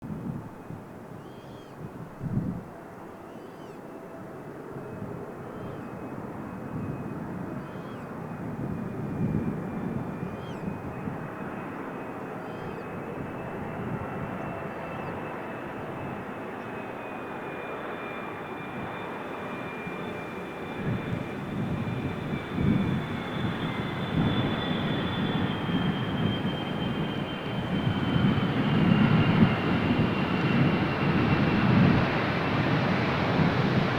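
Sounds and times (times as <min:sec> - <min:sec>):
jet engines whining and rumbling: 0:00.3 - 0:33.9.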